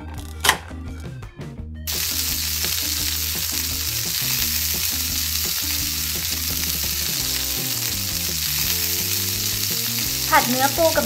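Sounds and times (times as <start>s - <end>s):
light background music: 0.0s - 11.0s
frying sizzle: 1.9s - 11.0s.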